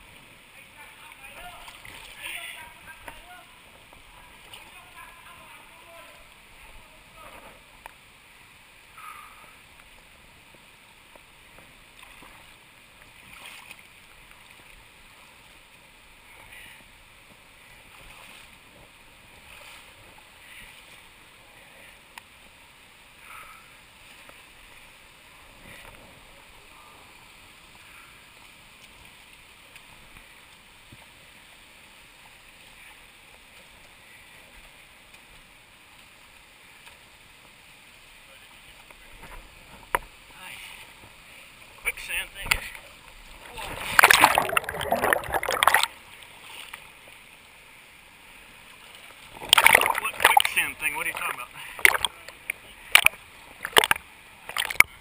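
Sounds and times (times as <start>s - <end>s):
river water flowing: 0.0s - 55.0s
water splashes: 0.0s - 55.0s.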